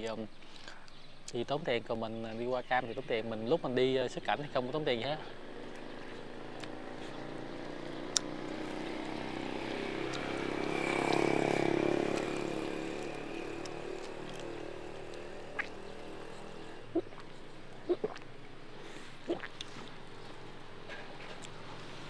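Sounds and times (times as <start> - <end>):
steady engine hum: 2.1 - 22.0
vehicle engine passing by: 3.8 - 22.0.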